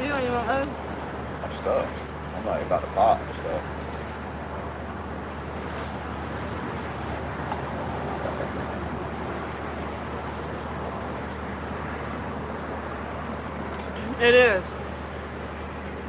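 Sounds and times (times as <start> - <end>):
vehicle humming: 0.0 - 16.0.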